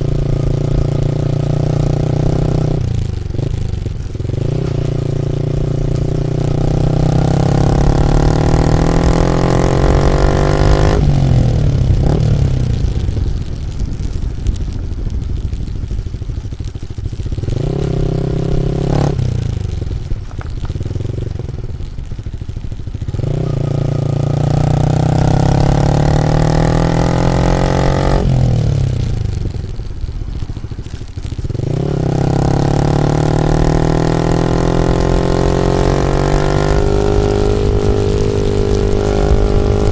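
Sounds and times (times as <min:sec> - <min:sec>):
motorcycle engine revving: 0:00.0 - 0:13.4, 0:15.6 - 0:39.9.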